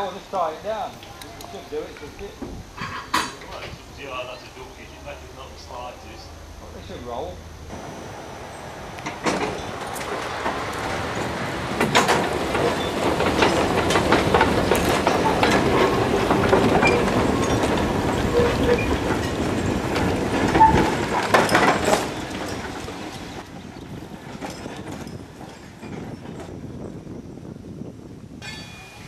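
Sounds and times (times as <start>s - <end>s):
tram wheels clattering over rails: 0.0s - 27.5s, 28.4s - 29.0s.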